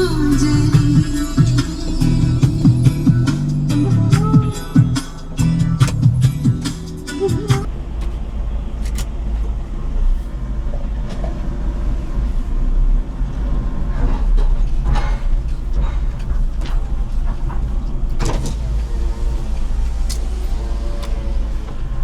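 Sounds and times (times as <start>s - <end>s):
vehicle cabin rumble: 0.0s - 22.0s.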